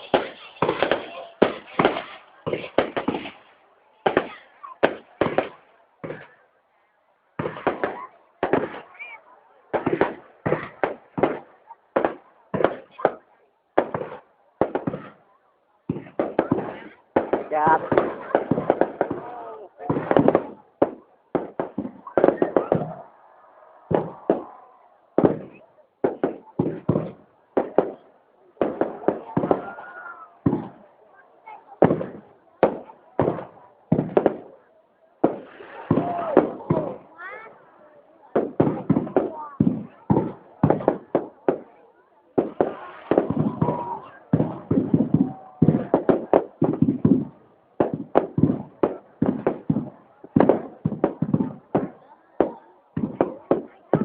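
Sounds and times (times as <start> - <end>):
fireworks bangs: 0.0 - 6.4, 7.3 - 54.0.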